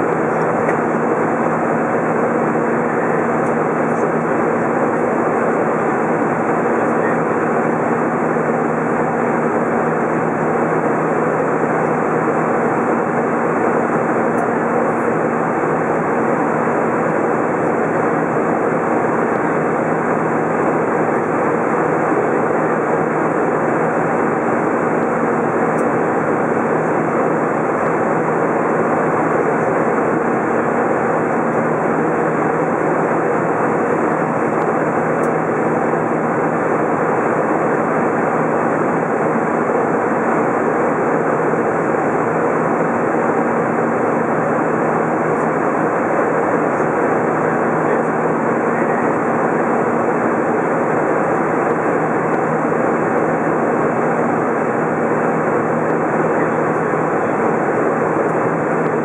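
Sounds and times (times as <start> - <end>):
airplane cabin engine rush: 0.0 - 59.0.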